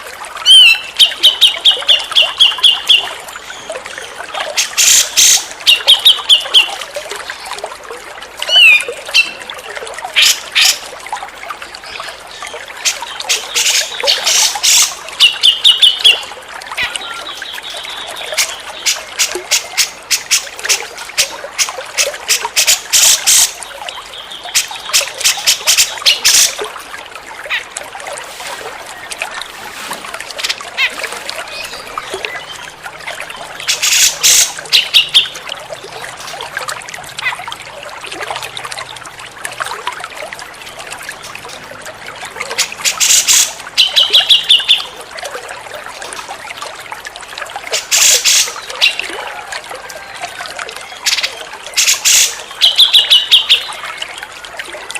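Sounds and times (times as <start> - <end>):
trickling water: 0.0 - 54.9.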